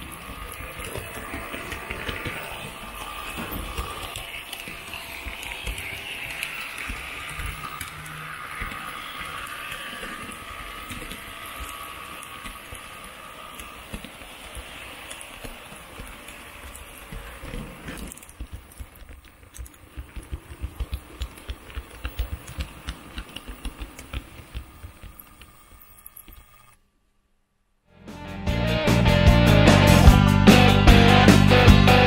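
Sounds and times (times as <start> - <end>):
model train clicking and clacking: 0.0 - 26.8
model train whirring: 0.0 - 26.8.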